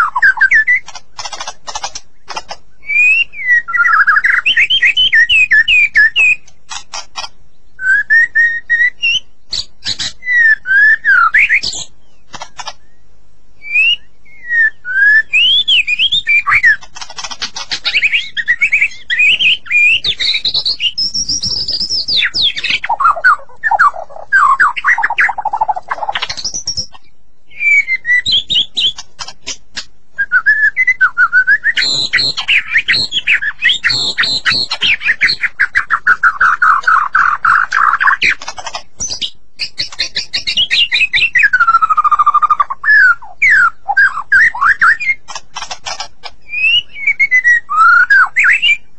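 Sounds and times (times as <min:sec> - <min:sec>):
bird singing whistled phrases: 0:00.0 - 0:00.8, 0:02.8 - 0:06.5, 0:07.8 - 0:11.9, 0:13.6 - 0:16.9, 0:17.8 - 0:29.0, 0:30.2 - 0:45.3, 0:46.5 - 0:48.9.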